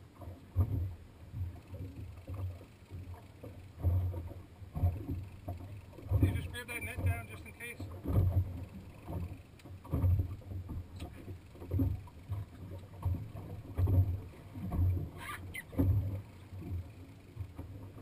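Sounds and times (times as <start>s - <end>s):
water slapping boat hull: 0.0s - 18.0s.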